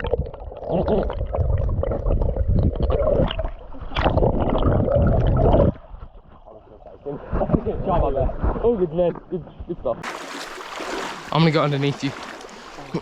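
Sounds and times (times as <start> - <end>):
water sloshing and splashing: 1.8 - 13.0.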